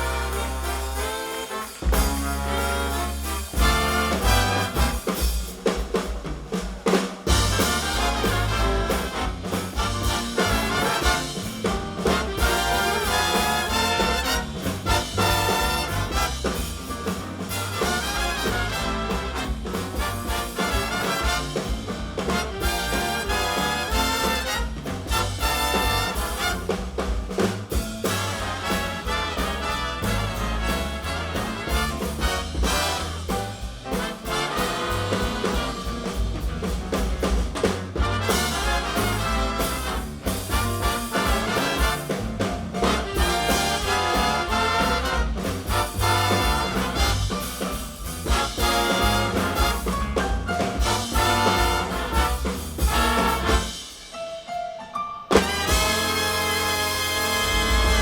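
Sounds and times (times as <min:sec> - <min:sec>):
jazz big band playing swing: 0:00.0 - 0:58.0.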